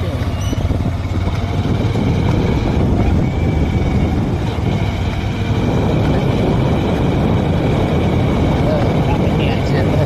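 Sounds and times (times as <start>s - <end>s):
motorbike engine and road noise: 0.0s - 10.0s
wind buffeting microphone: 0.0s - 10.0s.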